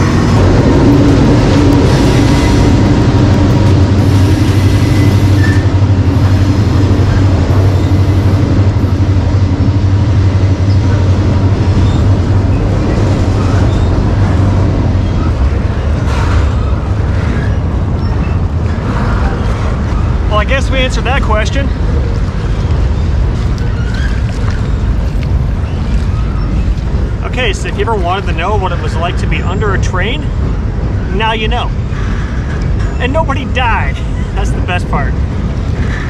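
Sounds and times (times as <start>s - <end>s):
train wheels rumbling on steel bridge: 0.0s - 36.0s.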